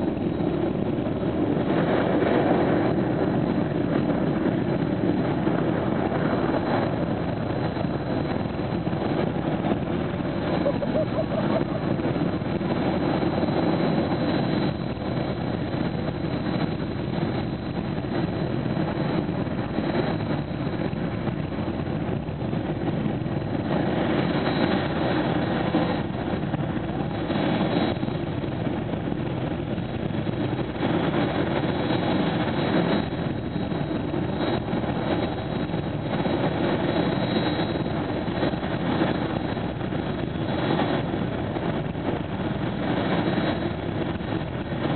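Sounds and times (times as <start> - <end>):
jet engine running: 0.0 - 44.9.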